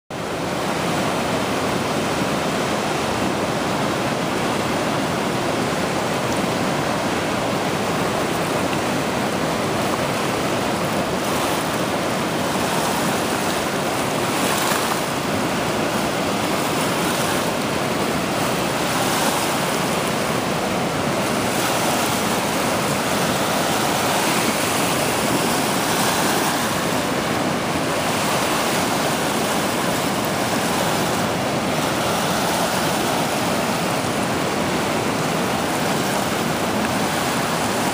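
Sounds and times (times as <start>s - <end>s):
river rushing over rock ledge: 0.1s - 37.9s.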